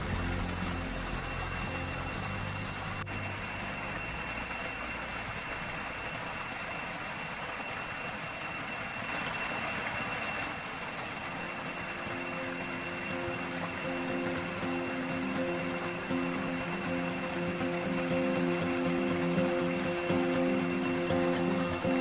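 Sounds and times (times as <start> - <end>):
stream water rushing down cascade: 0.0 - 7.8, 10.4 - 22.0
faint thin high tones: 0.0 - 22.0.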